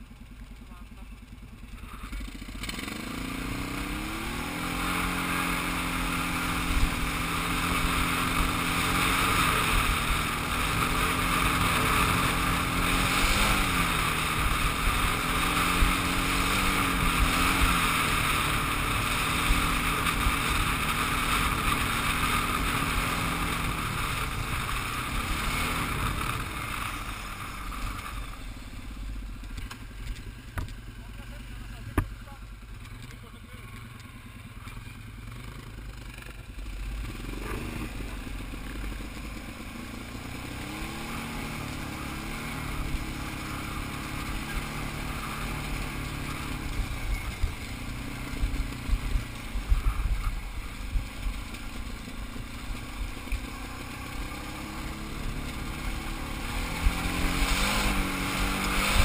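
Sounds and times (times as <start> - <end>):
quad engine revving: 0.6 - 59.0
steady rushing noise: 2.6 - 30.8, 35.1 - 59.0.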